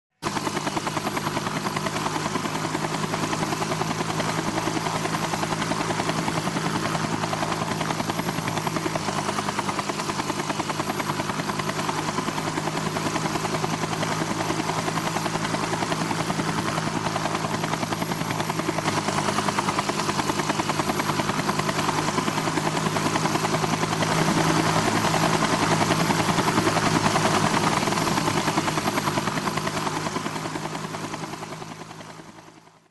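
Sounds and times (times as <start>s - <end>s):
helicopter rotor chop and engine: 0.1s - 32.9s.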